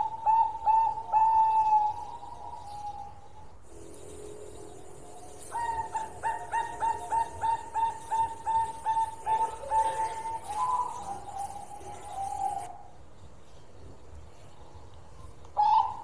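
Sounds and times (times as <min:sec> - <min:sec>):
dove cooing: 0:00.0 - 0:12.9, 0:15.6 - 0:16.0.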